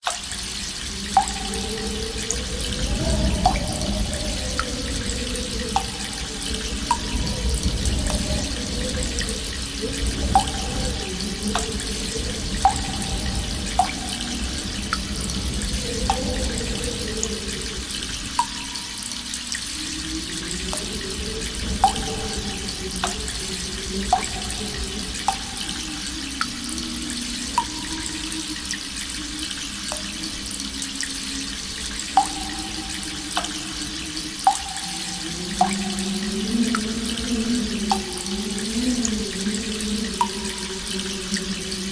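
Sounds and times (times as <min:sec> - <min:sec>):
stream trickling: 0:00.0 - 0:41.9
water drops dripping: 0:00.0 - 0:41.9
wind howling: 0:00.4 - 0:41.9.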